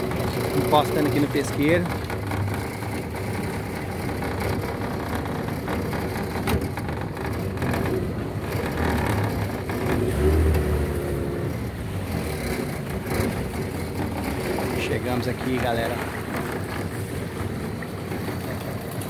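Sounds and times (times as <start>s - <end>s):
small boat motor running: 0.0s - 19.0s.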